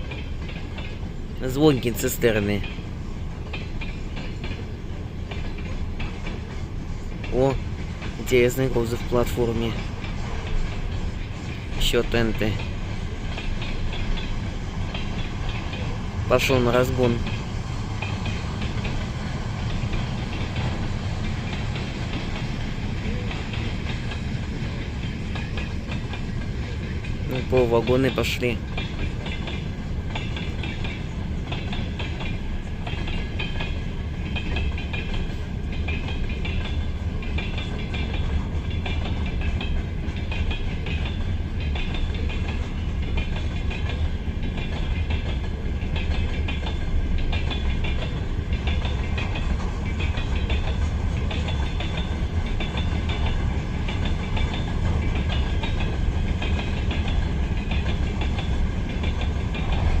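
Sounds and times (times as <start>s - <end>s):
low train rumble: 0.0s - 60.0s
train wheels clattering over rail joints: 0.0s - 60.0s.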